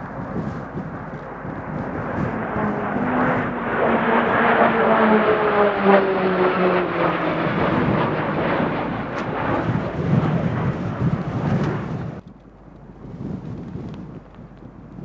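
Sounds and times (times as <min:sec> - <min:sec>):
turboprop aircraft passing: 0:00.0 - 0:15.0.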